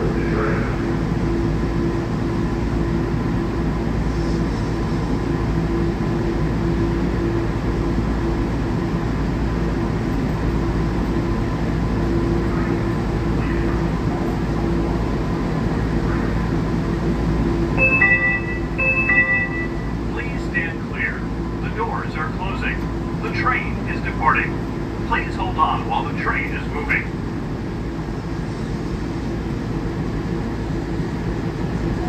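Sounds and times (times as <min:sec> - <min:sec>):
train car hum and rumble: 0:00.0 - 0:32.0.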